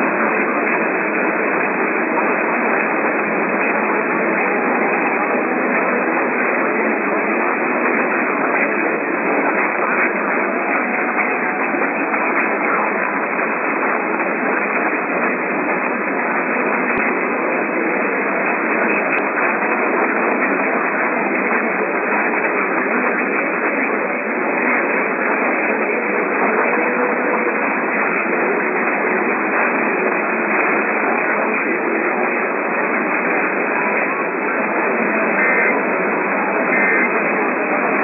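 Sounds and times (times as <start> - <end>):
radio static hiss: 0.0 - 38.0.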